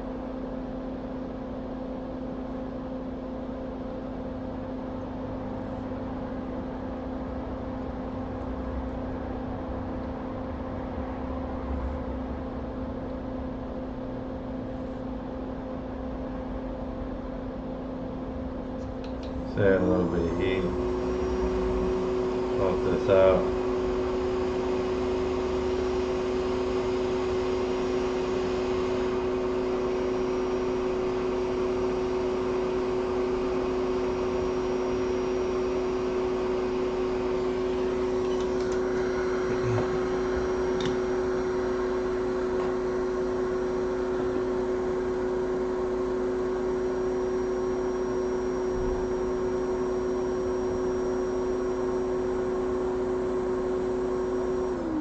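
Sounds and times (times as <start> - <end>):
hot air blower fan hum: 0.0 - 55.0.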